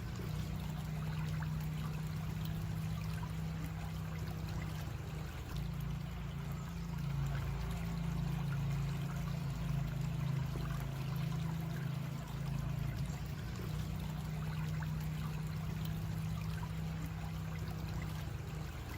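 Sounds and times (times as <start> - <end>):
creek water trickling: 0.0 - 18.9.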